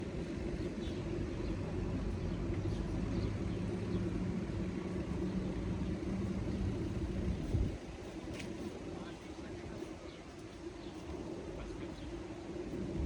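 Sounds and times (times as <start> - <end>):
outdoor background noise: 0.0 - 13.0
vehicle engine humming: 0.0 - 13.0.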